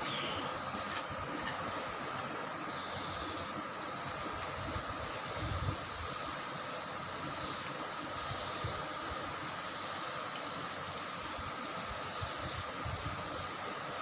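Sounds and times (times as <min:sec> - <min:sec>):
gas burner hissing: 0:00.0 - 0:14.0.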